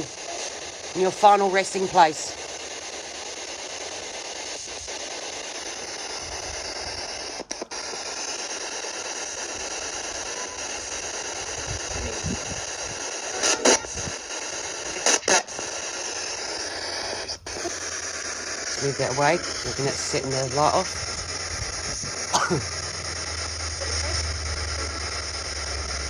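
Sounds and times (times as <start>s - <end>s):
steady static hiss: 0.0s - 26.0s.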